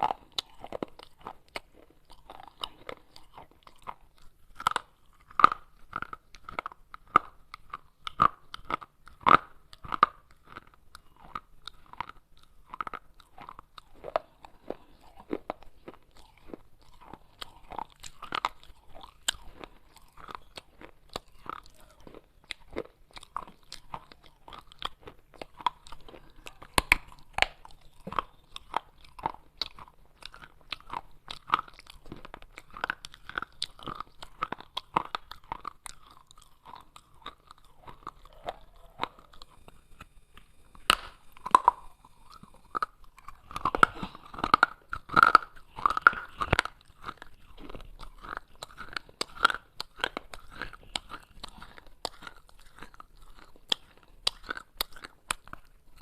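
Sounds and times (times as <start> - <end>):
crunching baked clay: 0.0 - 56.0.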